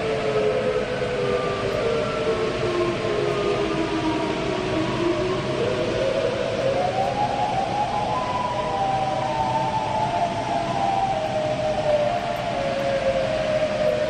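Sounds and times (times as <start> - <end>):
steady hiss: 0.0 - 14.0
warning siren wailing: 0.0 - 14.0.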